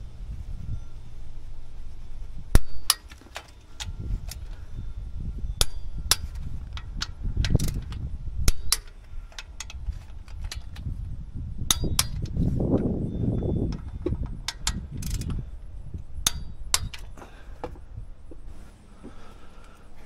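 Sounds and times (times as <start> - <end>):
low handling rumble: 0.0 - 20.0.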